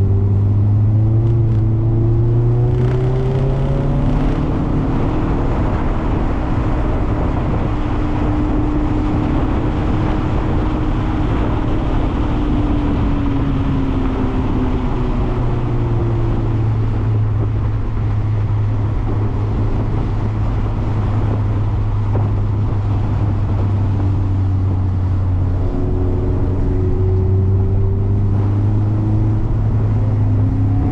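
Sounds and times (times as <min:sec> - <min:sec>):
car engine at low revs: 0:00.0 - 0:30.9
road noise: 0:00.0 - 0:30.9.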